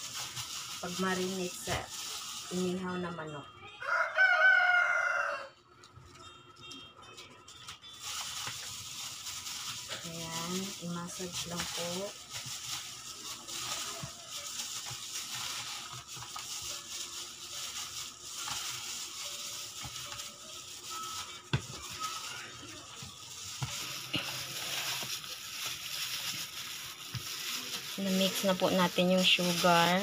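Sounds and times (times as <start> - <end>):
plastic bag crinkling: 0.0 - 3.4, 5.8 - 30.0.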